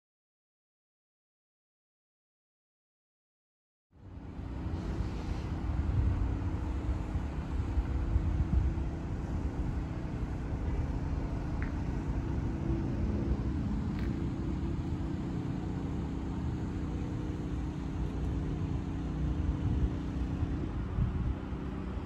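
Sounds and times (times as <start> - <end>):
car engine idling: 4.2 - 22.0.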